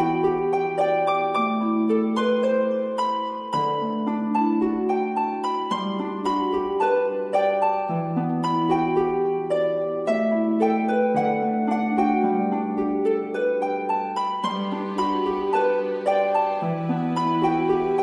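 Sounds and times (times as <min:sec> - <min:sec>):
plucked harp-like melody: 0:00.0 - 0:18.0.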